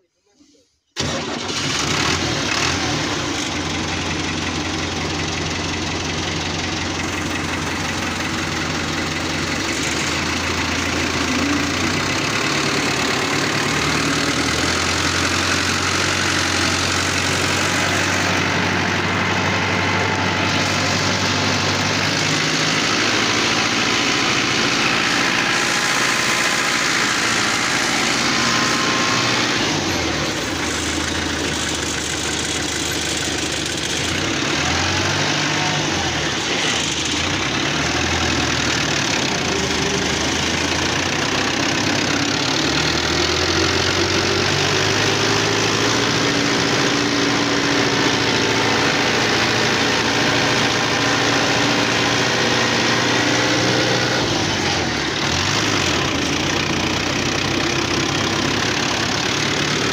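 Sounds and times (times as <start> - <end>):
diesel tractor engine running: 1.0 - 59.9.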